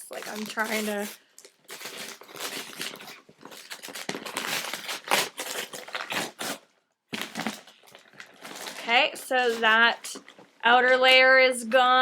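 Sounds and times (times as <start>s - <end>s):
cardboard packaging tearing: 0.0s - 10.4s
packaging crinkling: 0.0s - 11.3s.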